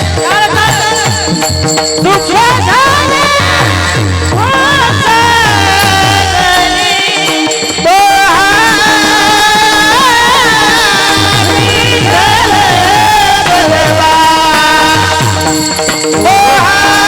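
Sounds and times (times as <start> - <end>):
low percussion: 0.0 - 17.0
person singing devotional song: 0.0 - 17.0.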